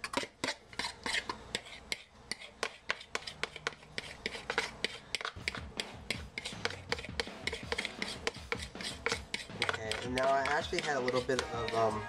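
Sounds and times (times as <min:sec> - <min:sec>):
utensil scraping a plastic bowl: 0:00.0 - 0:12.0.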